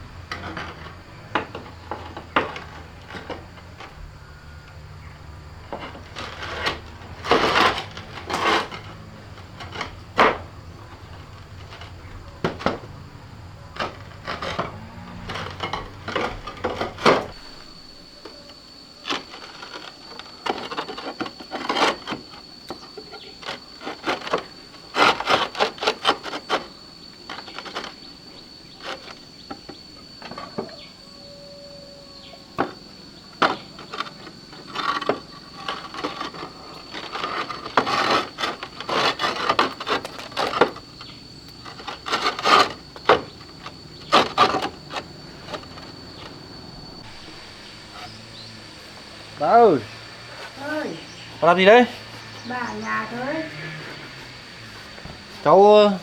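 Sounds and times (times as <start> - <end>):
roof tiles clacking and scraping: 0.0 - 31.0, 32.4 - 56.0.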